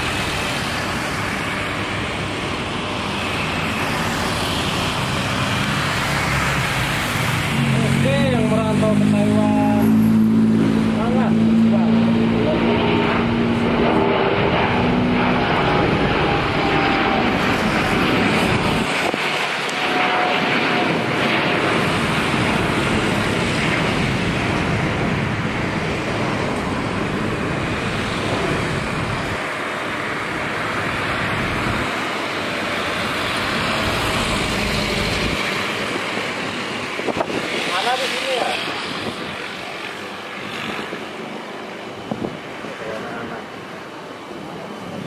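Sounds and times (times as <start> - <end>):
jet engine roar on take-off: 0.0 - 45.0.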